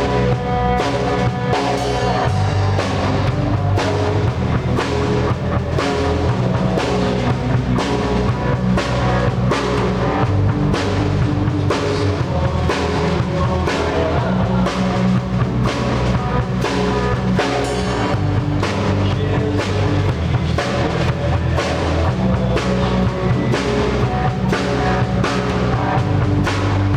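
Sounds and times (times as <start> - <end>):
band playing live: 0.0 - 26.9
drum kit beat: 0.0 - 26.9
sustained bass notes: 0.0 - 26.9.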